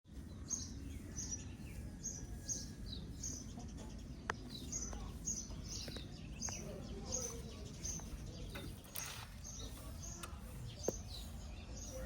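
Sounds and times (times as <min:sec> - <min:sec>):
bird chirping: 0:00.1 - 0:12.0.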